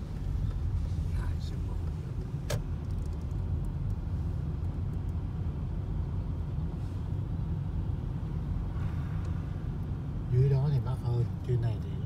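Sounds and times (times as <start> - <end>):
car driving heard from inside: 0.0 - 12.0.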